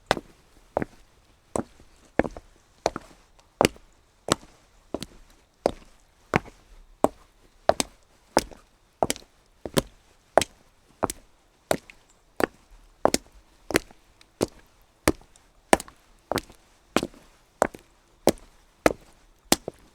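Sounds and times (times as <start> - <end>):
footsteps on wet cobblestones: 1.6 - 19.9.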